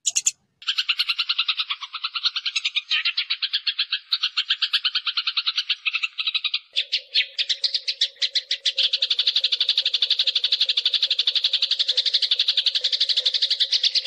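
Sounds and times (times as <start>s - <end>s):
sparrows chattering harshly: 0.0s - 14.0s.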